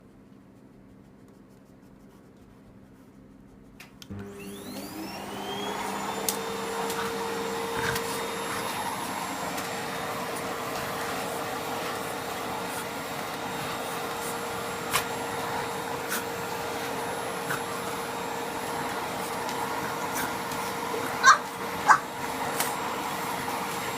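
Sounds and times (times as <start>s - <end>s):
vacuum cleaner motor whine: 4.0s - 23.9s.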